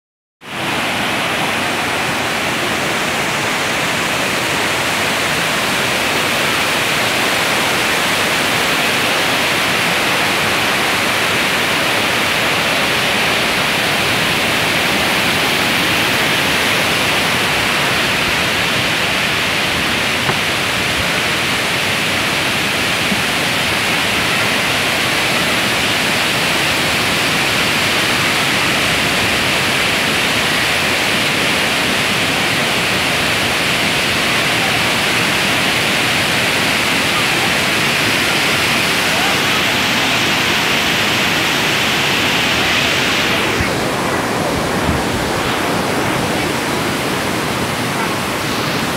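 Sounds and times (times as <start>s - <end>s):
water rushing over waterfall cascades: 0.4s - 48.9s.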